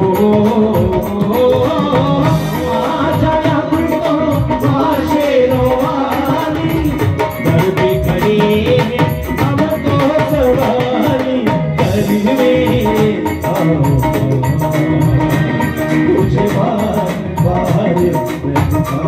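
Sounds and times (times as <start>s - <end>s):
dhol drumming: 0.0s - 19.0s
electronic keyboard melody: 0.0s - 19.0s
percussion: 0.0s - 19.0s.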